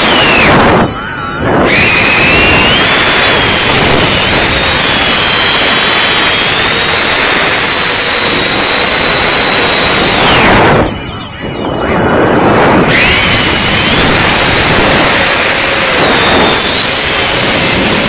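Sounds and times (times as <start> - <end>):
drone fans whining: 0.0 - 18.0
rushing airflow: 0.0 - 18.0.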